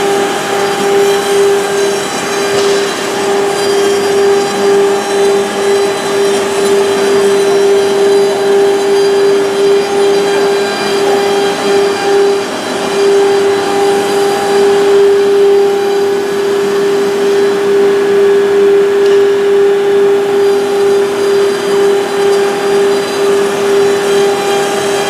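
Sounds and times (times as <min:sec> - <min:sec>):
woodworking machine whining: 0:00.0 - 0:25.0.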